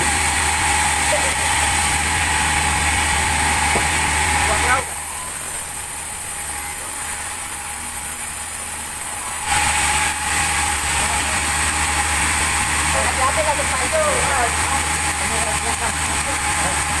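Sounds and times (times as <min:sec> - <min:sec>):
machine whine and hiss: 0:00.0 - 0:17.0
sawmill machinery humming: 0:00.0 - 0:17.0.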